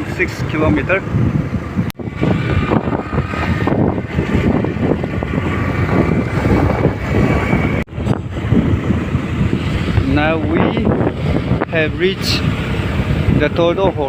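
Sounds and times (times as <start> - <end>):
vehicle engine and road noise: 0.0 - 14.0
wind buffeting microphone: 0.0 - 14.0.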